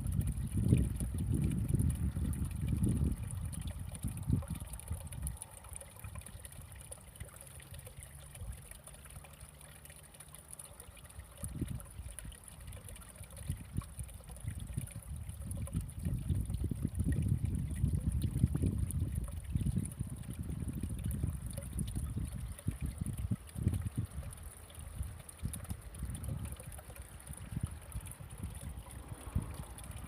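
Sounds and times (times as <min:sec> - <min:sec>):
water sloshing and lapping: 0:00.1 - 0:30.0.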